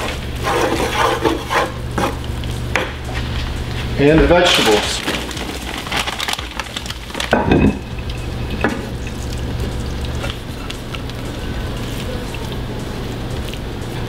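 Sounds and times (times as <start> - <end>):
low hum: 0.0 - 14.0
frozen vegetables pattering: 2.2 - 14.0.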